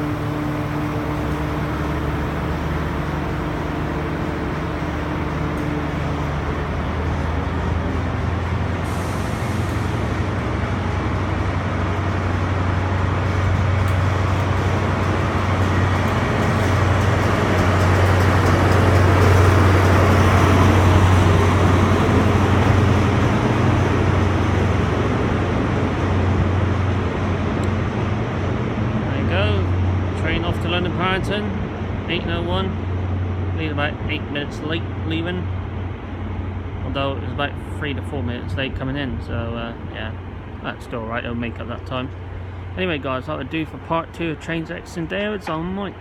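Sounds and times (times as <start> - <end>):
diesel train engine hum: 0.0 - 46.0
train rumble: 0.0 - 46.0.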